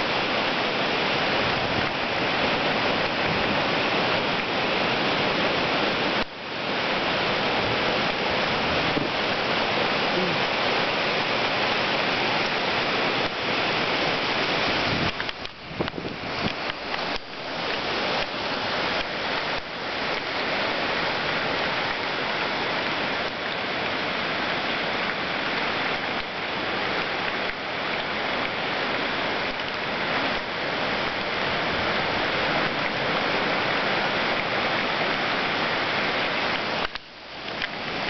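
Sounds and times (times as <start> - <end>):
rain: 0.0 - 38.0
wind through trees: 0.0 - 38.0.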